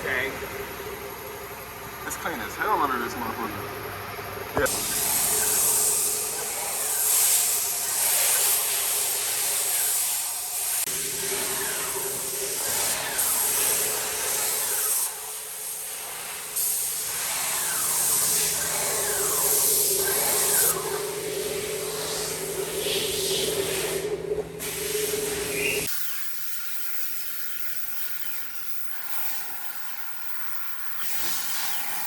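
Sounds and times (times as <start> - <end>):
steady machine hum: 0.0 - 25.9
pressurised spray hissing: 4.7 - 32.0.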